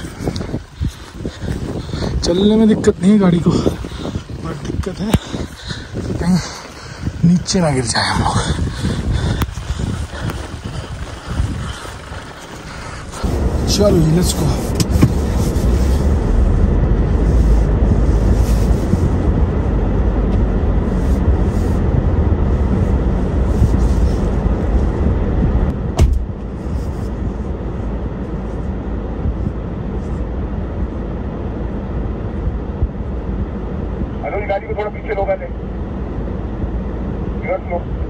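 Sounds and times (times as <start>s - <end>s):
low heavy vehicle rumble: 0.0s - 38.0s.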